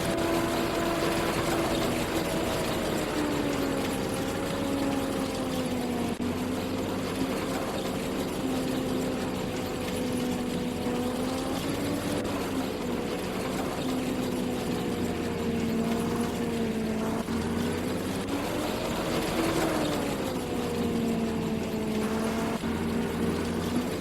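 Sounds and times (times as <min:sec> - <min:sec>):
harvesting machine engine running: 0:00.0 - 0:24.0.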